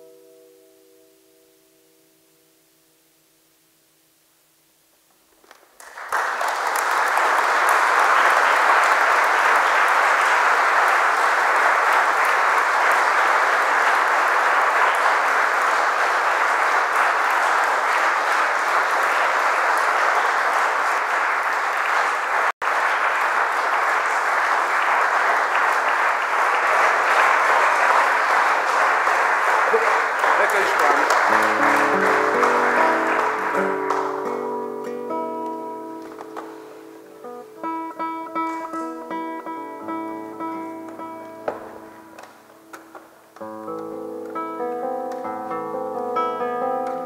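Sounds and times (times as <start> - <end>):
audience applauding: 5.3 - 47.0.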